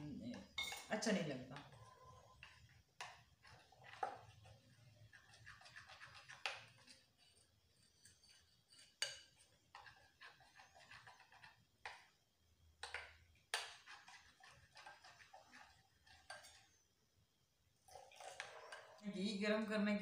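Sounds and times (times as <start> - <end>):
spoon stirring thick batter: 0.0 - 19.0.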